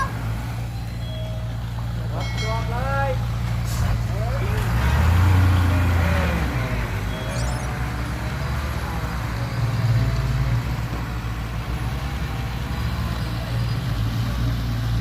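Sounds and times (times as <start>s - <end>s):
diesel earthmoving machinery droning: 0.0s - 15.0s.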